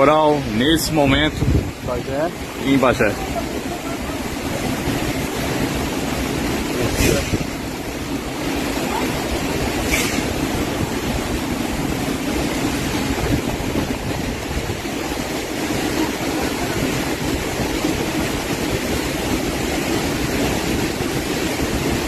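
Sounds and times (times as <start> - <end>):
heavy rain and wind: 0.0 - 22.0.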